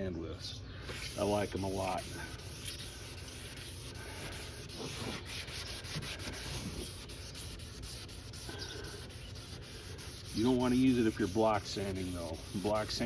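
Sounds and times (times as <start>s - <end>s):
sandpaper rubbing on plastic: 0.9s - 13.0s.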